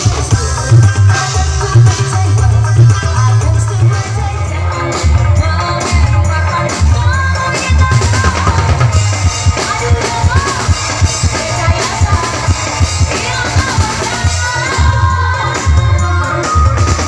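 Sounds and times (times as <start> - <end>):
heavy bass line: 0.0 - 16.8
loud music with drums: 0.0 - 17.0.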